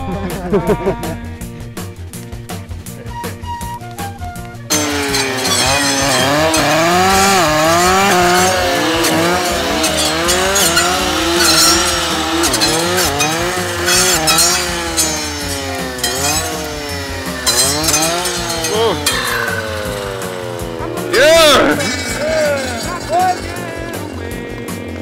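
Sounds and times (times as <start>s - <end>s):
brush saw engine revving: 4.7s - 25.0s.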